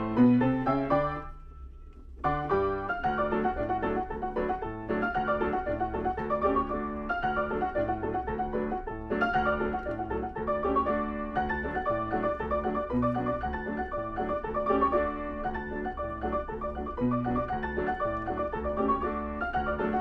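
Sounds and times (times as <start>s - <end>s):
player piano playing dance tune: 0.0s - 20.0s.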